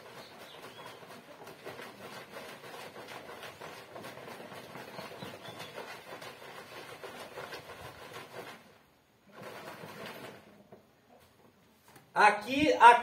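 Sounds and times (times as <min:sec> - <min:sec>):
liquid sloshing in plastic bottle: 0:00.0 - 0:10.9.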